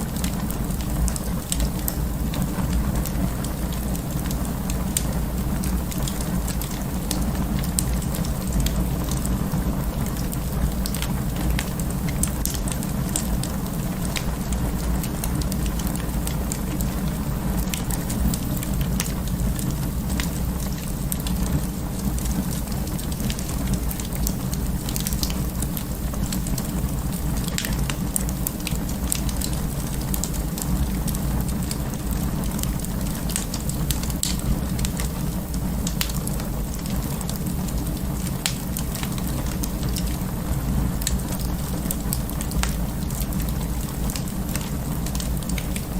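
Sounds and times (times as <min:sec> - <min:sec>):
low fire rumble: 0:00.0 - 0:45.9
wood fire crackling and popping: 0:00.0 - 0:45.9.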